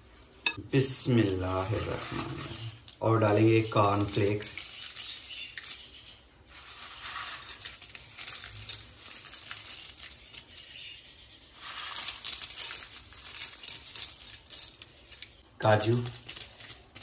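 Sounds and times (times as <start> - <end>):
corn flakes rustling and crackling: 0.0 - 10.9, 11.5 - 17.0.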